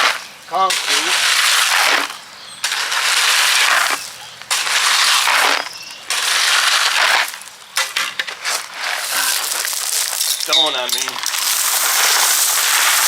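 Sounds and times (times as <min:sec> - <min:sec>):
shovel scraping into rock: 0:00.0 - 0:13.0.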